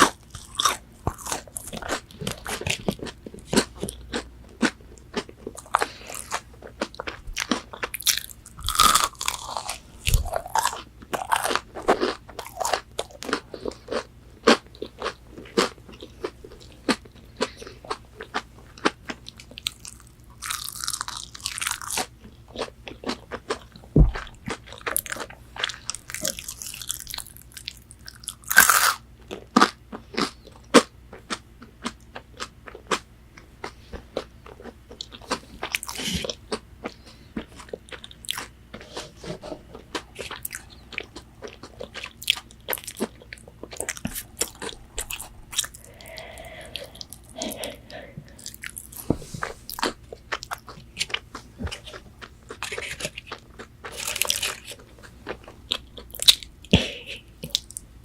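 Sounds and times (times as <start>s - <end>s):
crunchy chewing: 0.0s - 57.8s.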